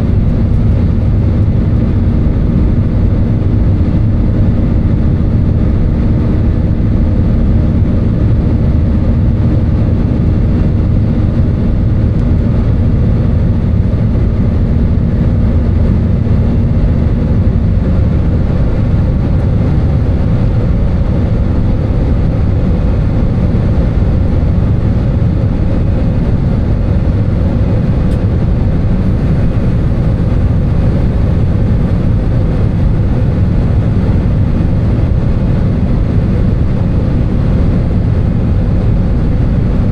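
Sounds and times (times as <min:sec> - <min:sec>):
airplane cabin engine drone: 0:00.0 - 0:39.9
faint steady hums: 0:00.0 - 0:39.9.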